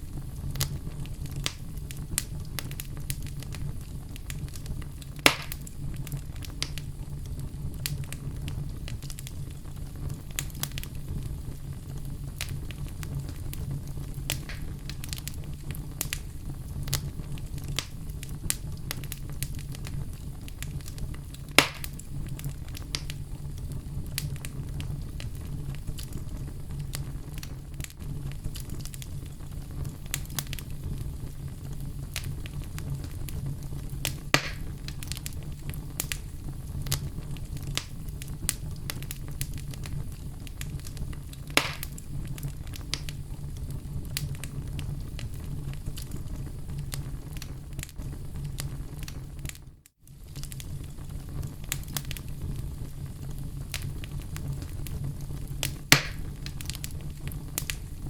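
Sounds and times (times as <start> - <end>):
logs burning in fireplace: 0.0 - 58.0
sharp fire pops: 0.1 - 58.0.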